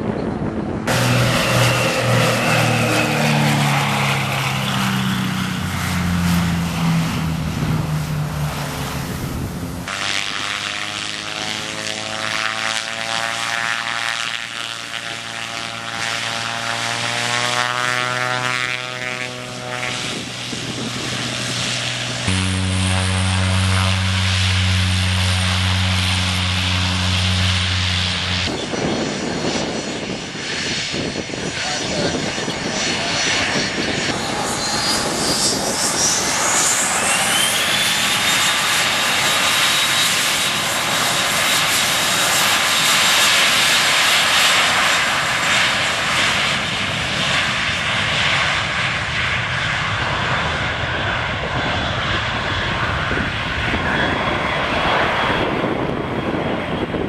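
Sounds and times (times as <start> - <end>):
jet taxiing with high whine: 0.0 - 57.0
propeller engines running: 0.0 - 57.0
propeller plane flying past: 0.0 - 57.0.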